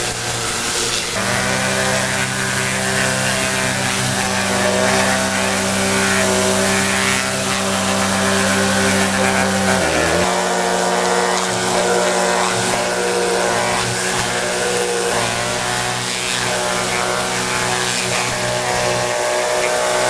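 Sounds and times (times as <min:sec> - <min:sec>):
pressure washer motor and pump: 0:00.0 - 0:20.0
water spray hissing: 0:00.0 - 0:20.0.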